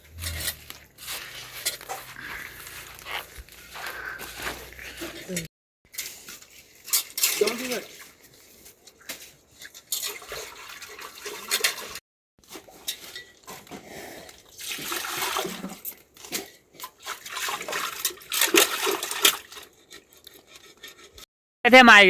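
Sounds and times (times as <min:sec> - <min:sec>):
water pouring and splashing: 0:00.0 - 0:21.1.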